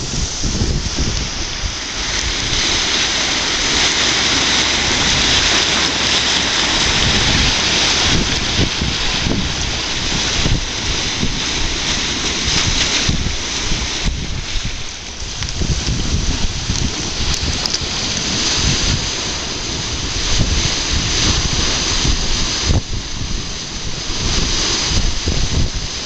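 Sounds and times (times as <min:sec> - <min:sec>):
whirlpool water churning: 0:00.0 - 0:26.0
wind on microphone: 0:00.0 - 0:26.0.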